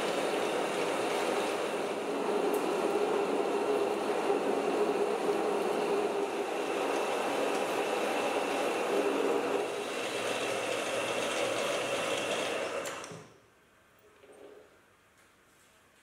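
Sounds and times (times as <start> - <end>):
metal lathe cutting: 0.0 - 13.2.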